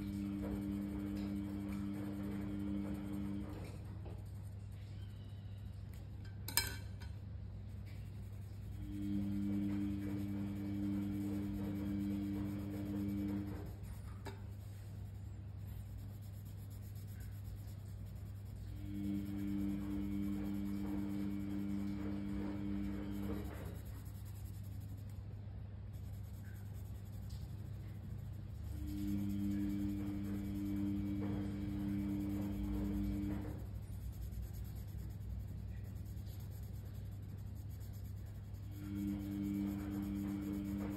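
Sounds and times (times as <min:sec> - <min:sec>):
pencil scratching on paper: 0:00.0 - 0:05.2, 0:07.7 - 0:40.9
steady low hum: 0:00.0 - 0:40.9.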